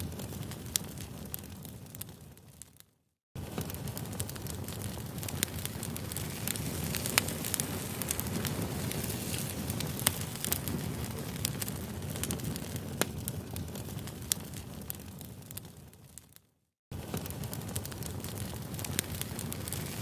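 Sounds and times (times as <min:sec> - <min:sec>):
campfire crackling: 0:00.0 - 0:02.8, 0:03.4 - 0:20.0.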